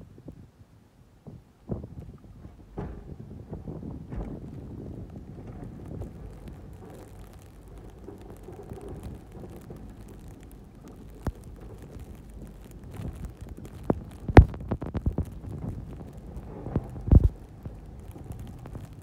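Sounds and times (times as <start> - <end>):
sharp knocks and thumps: 1.3 - 19.0
snow-plow truck rumbling: 2.5 - 19.0.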